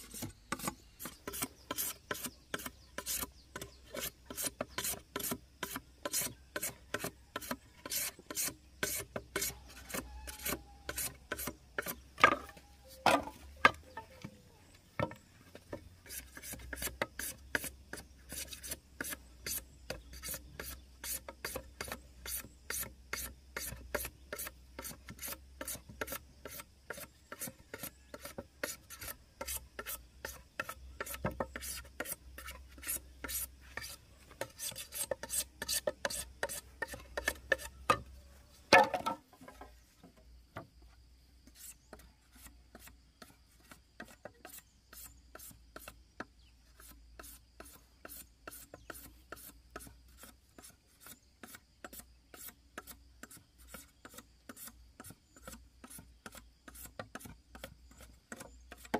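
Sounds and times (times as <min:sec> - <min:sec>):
hand tool rasping wood: 0:00.0 - 0:14.0, 0:15.0 - 0:38.1, 0:41.4 - 0:58.9.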